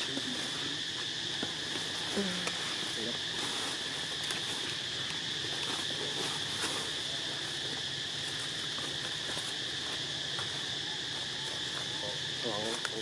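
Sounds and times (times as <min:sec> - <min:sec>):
insects droning: 0:00.0 - 0:13.0
faint ticks and rustles: 0:00.2 - 0:13.0.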